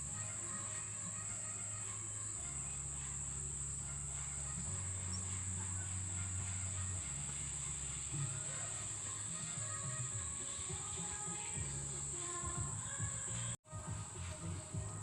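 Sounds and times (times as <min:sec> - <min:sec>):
background music with bass notes: 0:00.0 - 0:15.0
insects chirring: 0:00.0 - 0:15.0.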